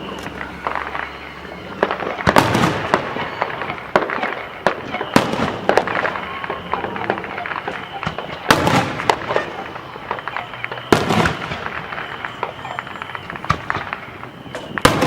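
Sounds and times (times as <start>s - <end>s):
fireworks crackling: 0.0s - 15.0s
fireworks exploding: 0.0s - 15.0s.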